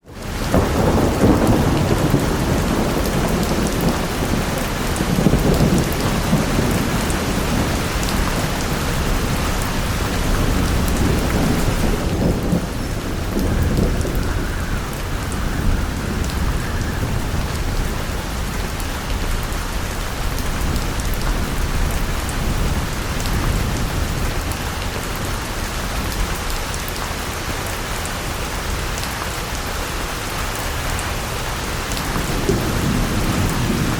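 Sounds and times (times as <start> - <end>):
heavy rain: 0.0 - 33.9
deep rolling thunder: 0.1 - 25.5, 31.7 - 33.9.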